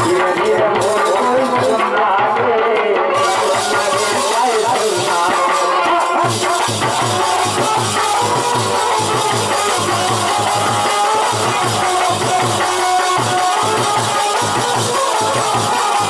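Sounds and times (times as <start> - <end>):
harmonium melody: 0.0 - 16.0
steady drum rhythm: 0.0 - 16.0.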